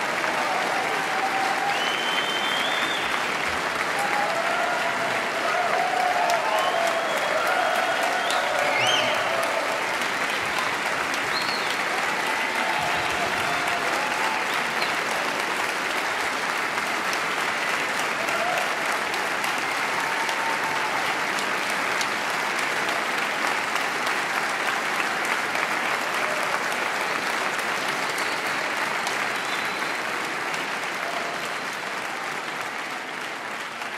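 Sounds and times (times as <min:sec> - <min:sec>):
audience applauding: 0:00.0 - 0:33.9.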